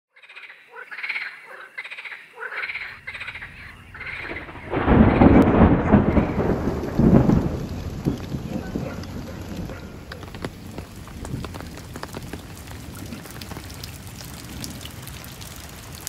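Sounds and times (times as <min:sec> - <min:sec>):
frogs croaking: 0:00.1 - 0:16.0
heavy rain: 0:02.8 - 0:16.0
thunder rumble: 0:03.0 - 0:16.0.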